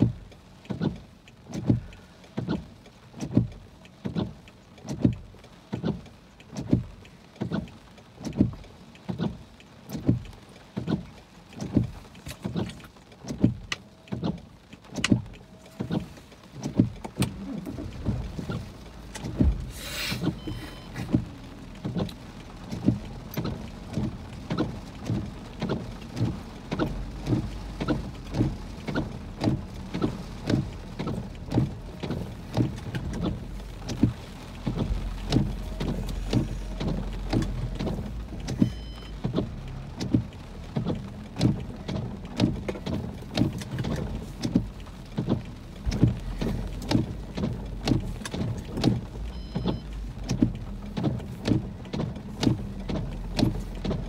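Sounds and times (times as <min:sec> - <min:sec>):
low steady rumble: 0:00.0 - 0:54.0
rain on car: 0:00.0 - 0:54.0
windshield wipers knocking: 0:00.0 - 0:54.0.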